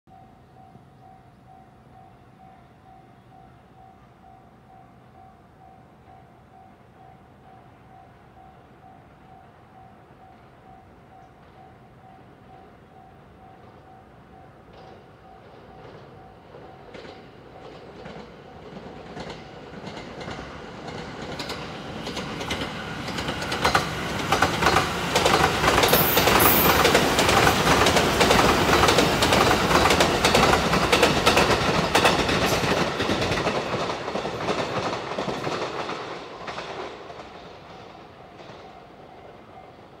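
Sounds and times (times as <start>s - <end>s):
train passing with rushing wheels: 6.8s - 40.0s.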